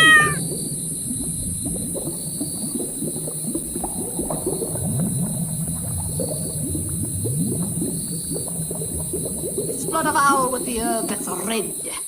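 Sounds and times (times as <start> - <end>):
thick liquid bubbling: 0.0 - 12.0.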